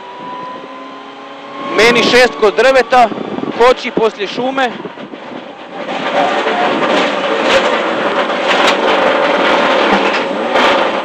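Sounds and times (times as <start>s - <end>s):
car engine running: 0.0s - 11.0s
road and tyre noise: 0.0s - 11.0s.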